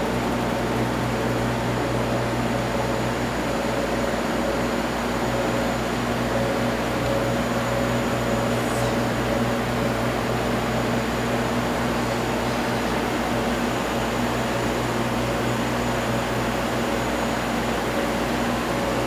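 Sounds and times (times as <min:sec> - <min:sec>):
low electrical hum: 0:00.0 - 0:19.0
ventilation fans whirring: 0:00.0 - 0:19.0.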